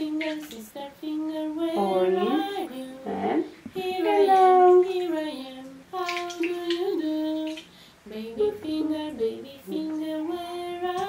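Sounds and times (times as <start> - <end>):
high voice singing slowly: 0.0 - 11.0.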